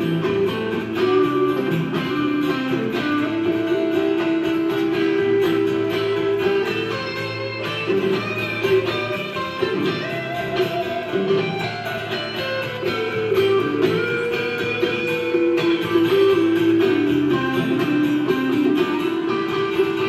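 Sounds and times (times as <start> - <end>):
melodic guitar line: 0.0 - 20.0
strummed guitar rhythm: 0.0 - 20.0.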